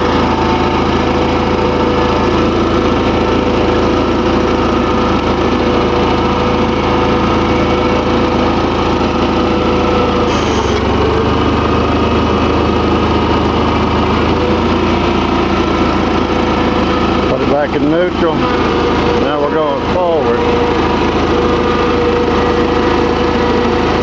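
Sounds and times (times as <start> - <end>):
garden tractor engine running: 0.0 - 24.0.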